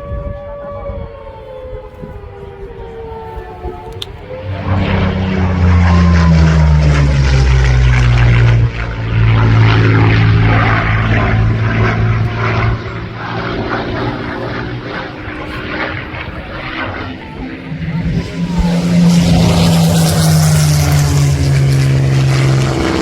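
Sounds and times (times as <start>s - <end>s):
propeller aircraft flying past: 2.3s - 23.0s.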